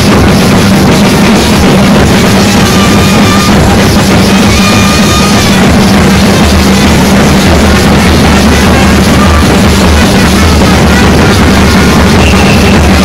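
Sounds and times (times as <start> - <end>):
drums pounding: 0.0 - 13.0.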